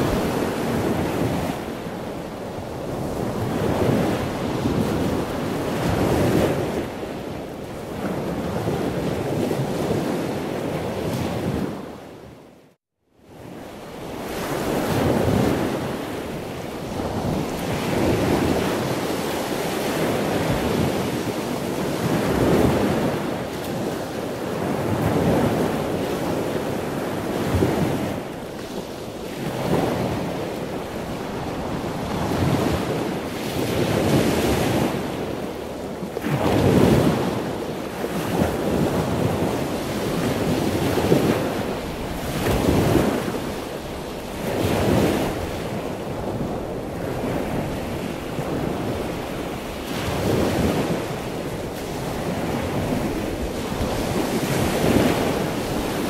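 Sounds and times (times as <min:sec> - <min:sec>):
sea waves washing onto shore: 0:00.0 - 0:12.0, 0:13.4 - 0:56.0
wind: 0:00.0 - 0:56.0.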